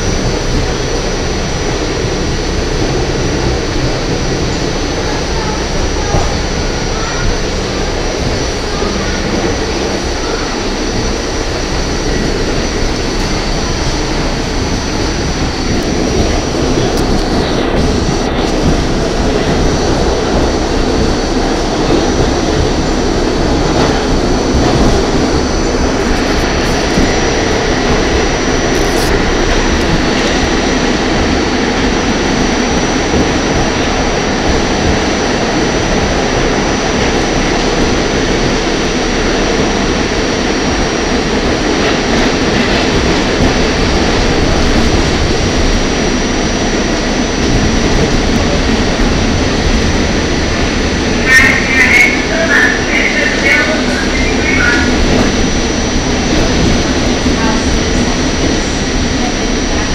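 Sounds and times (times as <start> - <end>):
high-pitched whine: 0.0 - 59.9
subway train rumble: 0.0 - 59.9.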